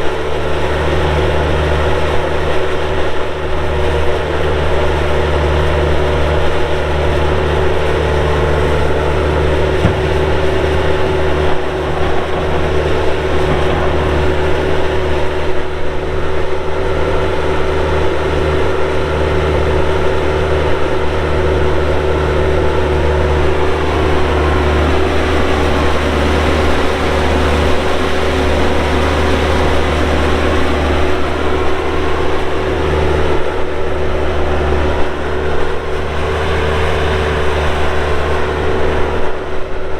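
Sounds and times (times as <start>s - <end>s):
diesel engine drone with whine: 0.0s - 39.9s.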